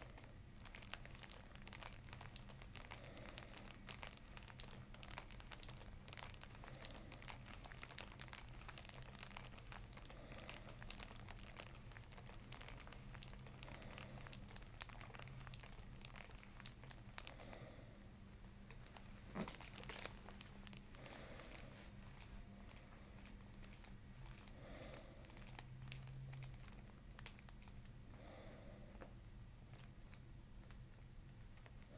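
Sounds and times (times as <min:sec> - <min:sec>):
fingers rustling hair and paper: 0:00.0 - 0:17.5, 0:18.6 - 0:28.0, 0:29.7 - 0:31.9.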